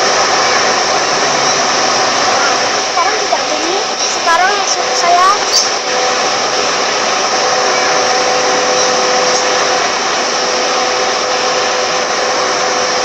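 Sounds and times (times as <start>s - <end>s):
car blower fan running: 0.0s - 13.0s.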